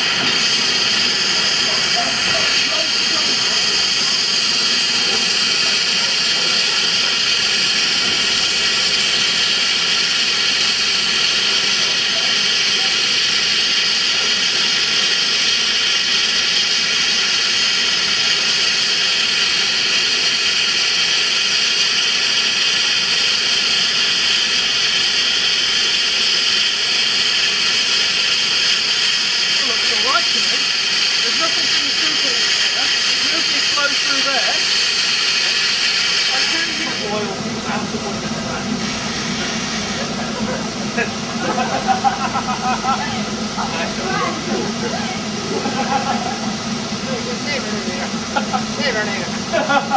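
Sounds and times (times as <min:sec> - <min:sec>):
steam hissing from locomotive: 0:00.0 - 0:49.9.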